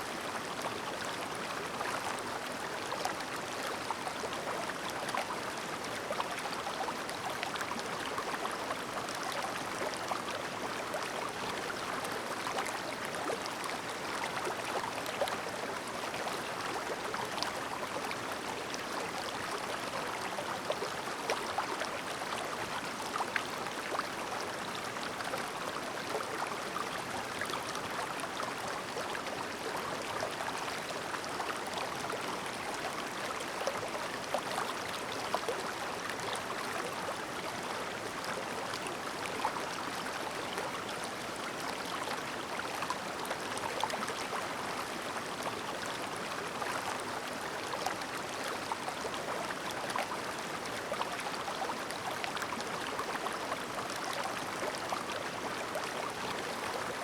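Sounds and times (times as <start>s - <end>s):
stream babbling over stones: 0.1s - 57.0s.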